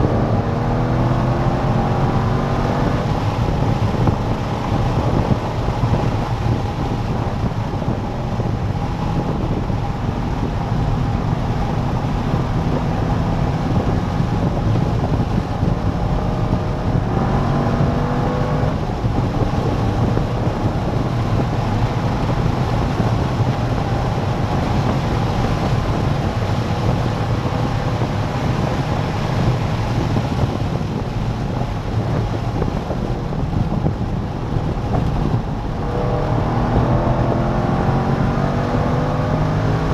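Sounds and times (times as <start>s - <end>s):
car engine running hard: 0.0s - 39.9s
wind noise: 0.0s - 39.9s.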